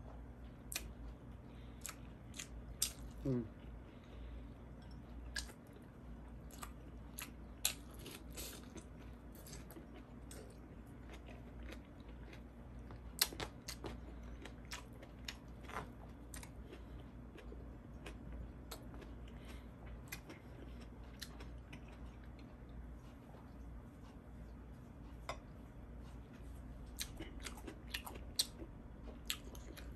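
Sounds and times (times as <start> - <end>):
person chewing and biting food: 0.6 - 4.1, 4.7 - 24.3, 25.9 - 29.9.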